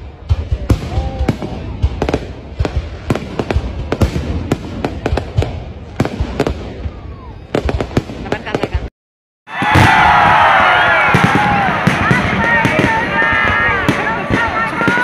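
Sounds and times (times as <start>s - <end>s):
fireworks rumble and crackle: 0.0s - 8.9s, 9.5s - 15.0s.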